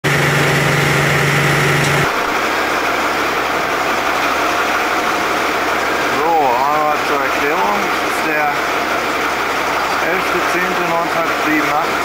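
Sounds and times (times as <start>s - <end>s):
diesel engines idling: 0.0s - 12.0s
steady low hum: 0.0s - 12.0s.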